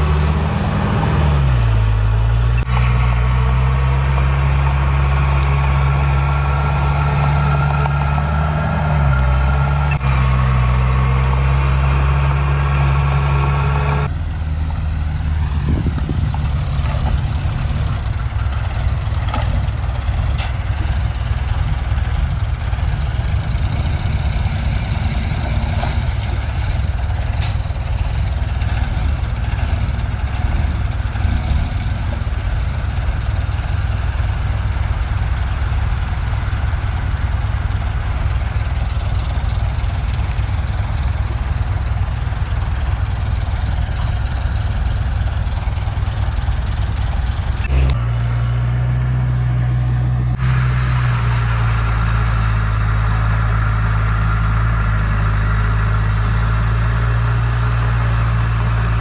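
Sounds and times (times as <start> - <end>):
heavy diesel engine running: 0.0 - 59.0
rough low engine rumble: 0.0 - 59.0.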